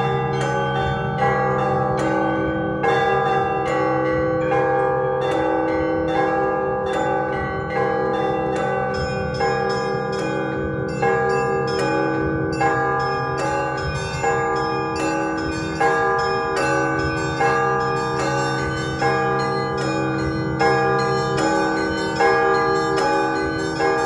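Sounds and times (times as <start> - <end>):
large church bells ringing: 0.0 - 24.0.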